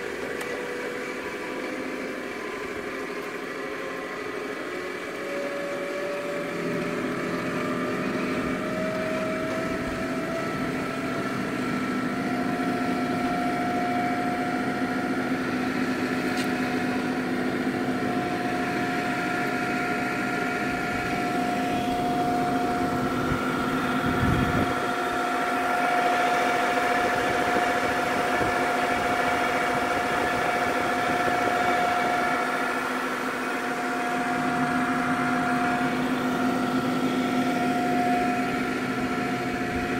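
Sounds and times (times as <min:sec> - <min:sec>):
mixer motor humming and whining: 0:00.0 - 0:39.9.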